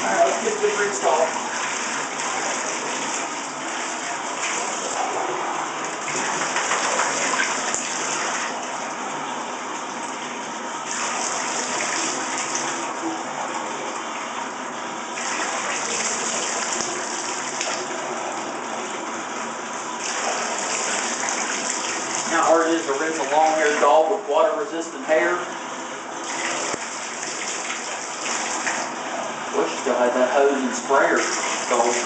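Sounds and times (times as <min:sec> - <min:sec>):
water splashing in bathtub: 0:00.0 - 0:24.5, 0:26.2 - 0:32.0.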